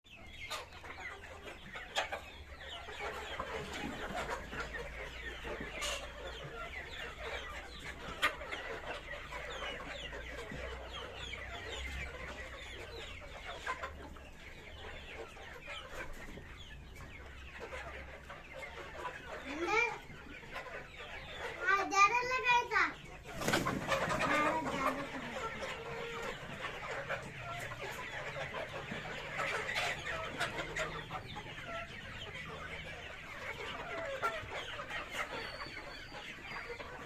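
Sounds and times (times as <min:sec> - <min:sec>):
chicks cheeping: 0:00.1 - 0:37.0.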